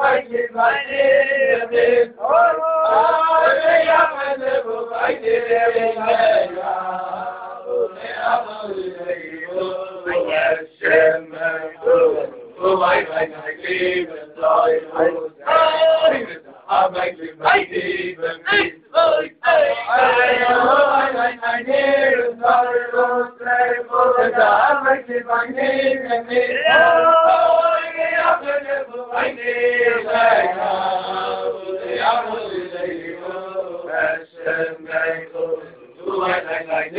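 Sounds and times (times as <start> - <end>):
men singing in unison: 0.0 - 36.9.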